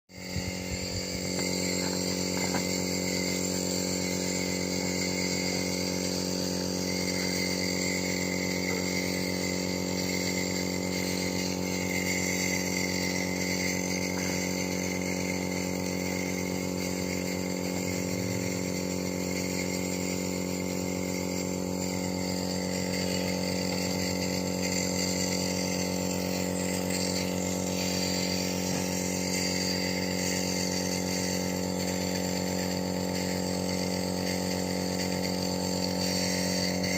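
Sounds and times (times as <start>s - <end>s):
compressor nebulizer buzzing: 0.0s - 36.9s.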